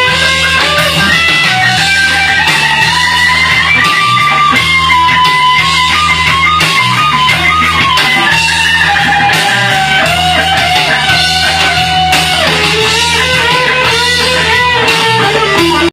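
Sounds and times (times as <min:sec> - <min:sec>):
electric guitar solo: 0:00.0 - 0:15.9
repeating bass line: 0:00.0 - 0:15.9.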